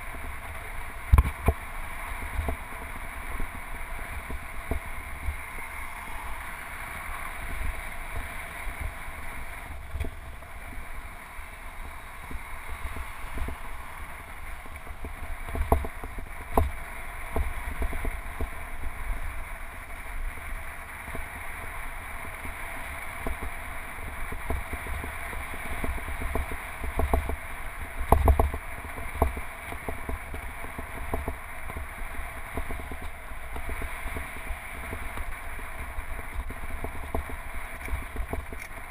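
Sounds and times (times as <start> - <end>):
tyres rumbling on pavement: 0.0 - 38.9
wind rushing over camera: 0.0 - 38.9.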